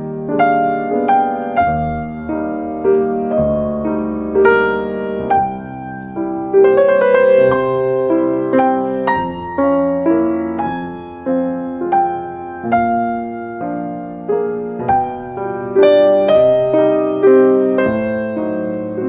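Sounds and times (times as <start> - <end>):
soft piano chords and notes: 0.0 - 19.0.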